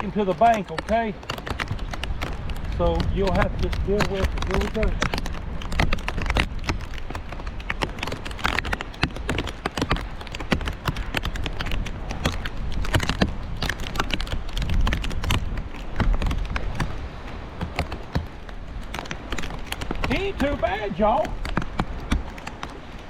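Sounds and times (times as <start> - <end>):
sharp clicks and knocks: 0.0 - 17.0, 17.6 - 22.8
wind rumbling on microphone: 0.0 - 23.0.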